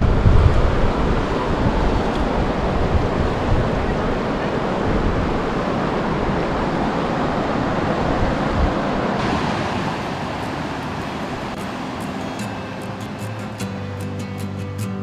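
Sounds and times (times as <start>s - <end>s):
wind buffeting microphone: 0.0s - 13.4s
river rushing over rocks: 0.0s - 14.6s.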